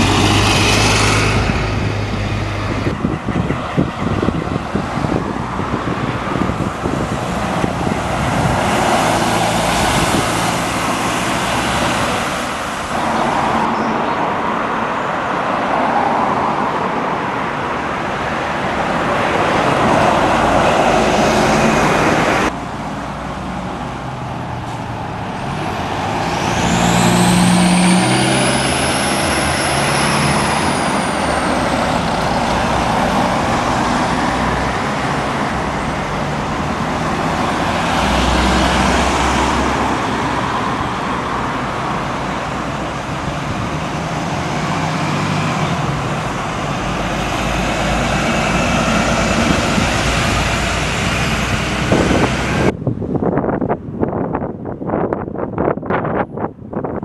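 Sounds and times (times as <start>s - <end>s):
bus engine running: 0.0s - 15.4s, 17.0s - 55.8s
road traffic: 0.0s - 57.0s.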